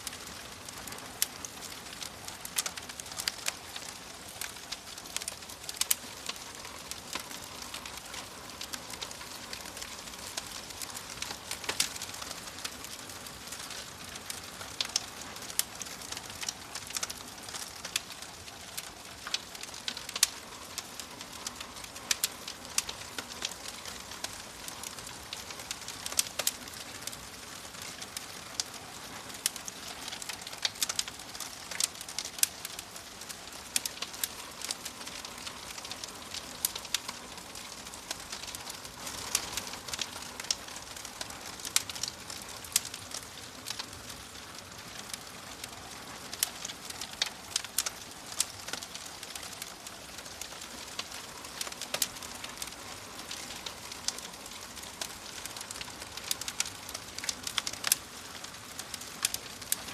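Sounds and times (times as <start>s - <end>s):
soft steady hiss: 0.0s - 59.9s
wood fire crackling: 0.0s - 59.9s.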